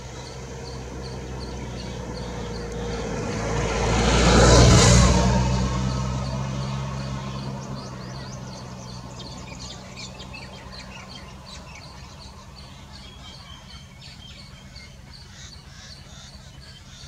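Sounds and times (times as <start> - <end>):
small birds chirping: 0.0 - 4.6, 5.7 - 17.0
vehicle engine passing: 0.0 - 16.2.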